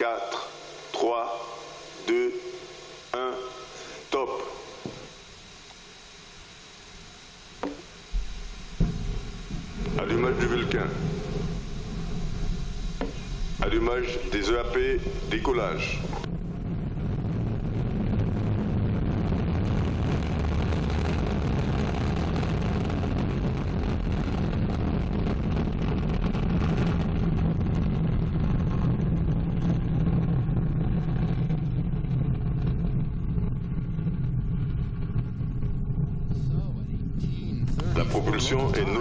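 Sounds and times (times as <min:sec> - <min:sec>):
rocket engine deep rumble: 0:00.0 - 0:39.0.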